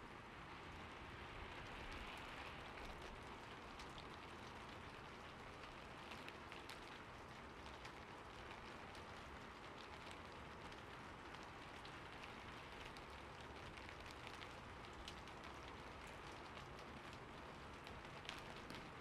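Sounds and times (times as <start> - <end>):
faint rain: 0.0 - 19.0
raindrops ticking on a surface: 0.0 - 19.0.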